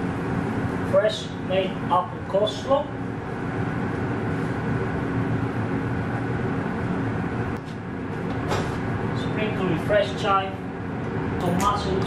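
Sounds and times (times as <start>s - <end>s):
kitchen ventilation drone: 0.0s - 12.0s.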